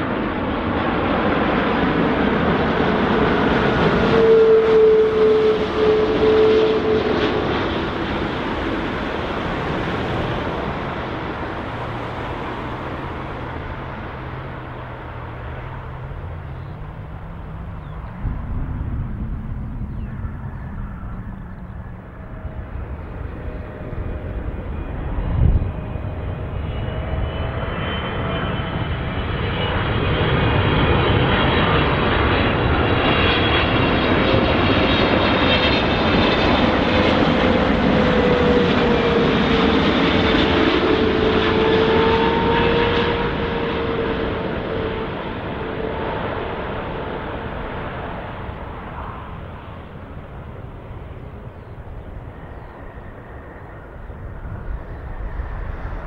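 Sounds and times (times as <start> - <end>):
jet airliner engines whining: 0.0 - 56.0.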